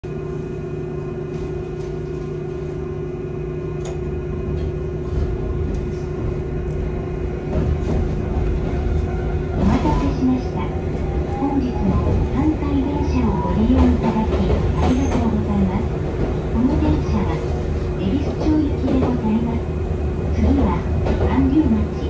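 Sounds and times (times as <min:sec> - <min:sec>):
low running rumble: 0:00.0 - 0:22.0
tram electrical hum: 0:00.0 - 0:22.0.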